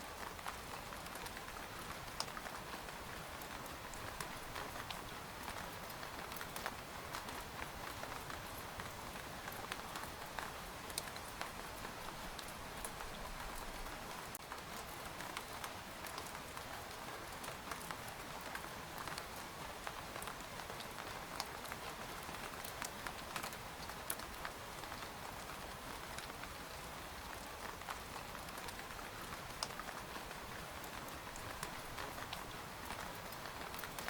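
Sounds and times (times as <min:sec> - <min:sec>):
rain hissing on a tent: 0:00.0 - 0:34.0
raindrops ticking on fabric: 0:00.1 - 0:34.0.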